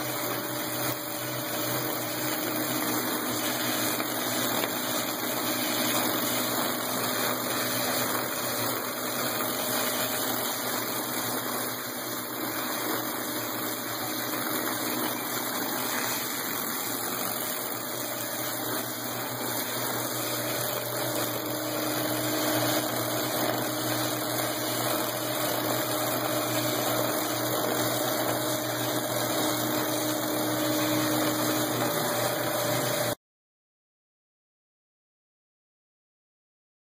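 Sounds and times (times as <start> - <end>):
printing press rollers whirring: 0.0 - 33.2.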